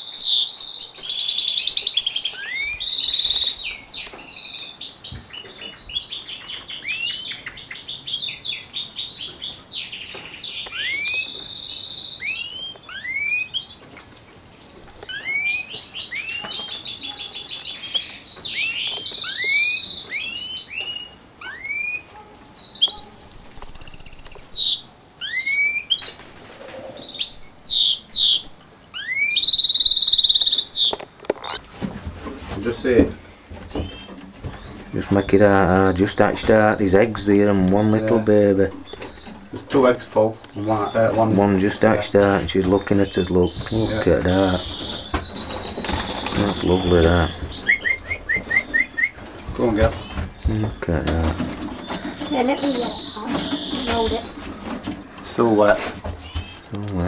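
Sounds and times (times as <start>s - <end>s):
songbird trilling and twittering: 0.0s - 31.6s, 32.6s - 56.8s.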